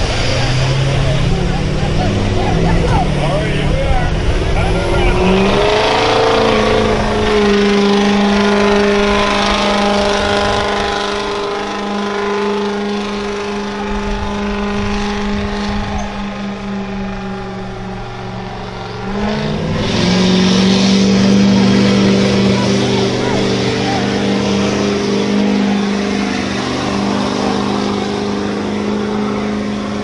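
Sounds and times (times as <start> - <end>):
truck engine at high revs: 0.0 - 30.0.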